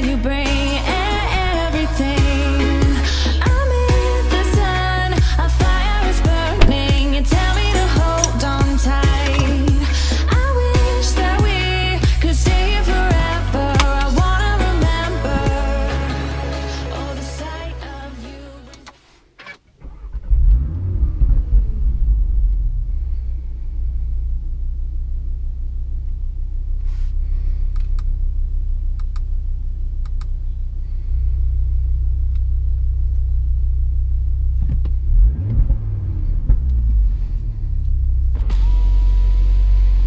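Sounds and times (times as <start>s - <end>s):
car engine starting and idling: 0.0s - 40.0s.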